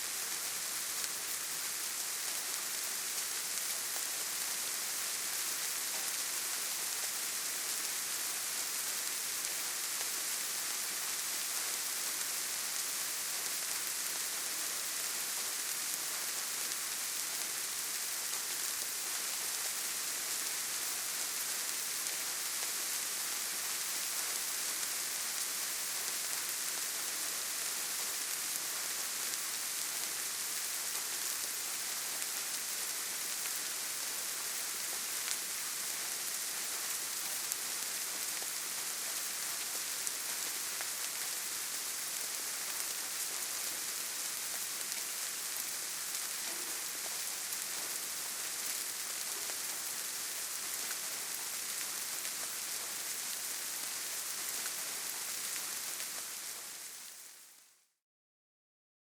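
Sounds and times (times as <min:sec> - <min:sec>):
gentle rain falling: 0:00.0 - 0:57.7.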